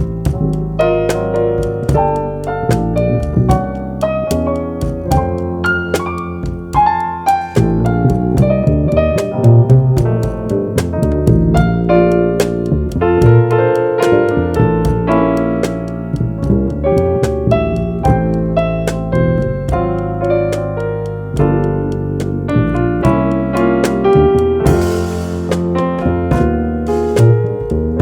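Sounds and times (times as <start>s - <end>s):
bass line: 0.0s - 28.0s
drums tapping: 0.0s - 28.0s.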